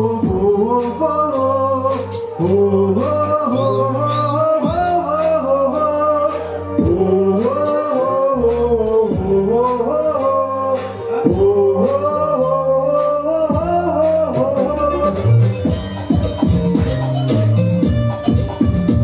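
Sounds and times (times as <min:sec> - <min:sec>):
man singing: 0:00.0 - 0:16.5
live band playing pop: 0:00.0 - 0:19.0.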